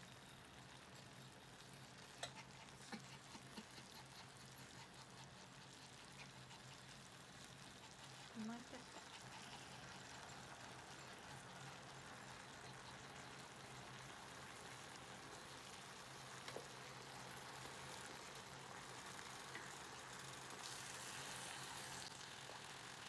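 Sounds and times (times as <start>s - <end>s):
food sizzling on hot plate: 0.0s - 23.0s.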